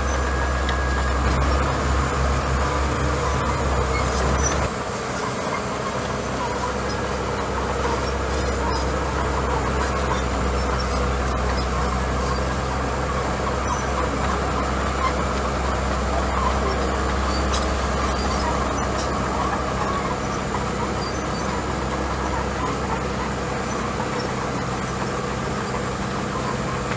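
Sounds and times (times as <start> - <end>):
bulldozer diesel engine running: 0.0 - 26.9.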